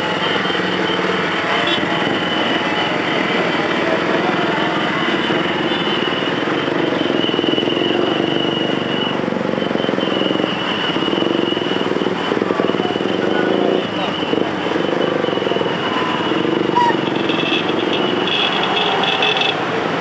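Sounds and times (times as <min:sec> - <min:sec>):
motorcycle engines idling and revving: 0:00.0 - 0:20.0.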